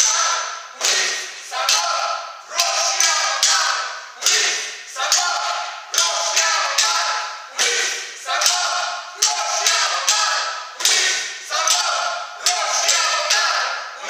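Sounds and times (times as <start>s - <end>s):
group shouting in unison: 0.0s - 14.0s.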